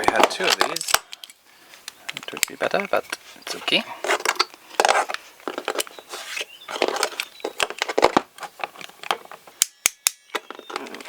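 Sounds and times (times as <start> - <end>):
tools and connectors clattering: 0.0 - 11.0.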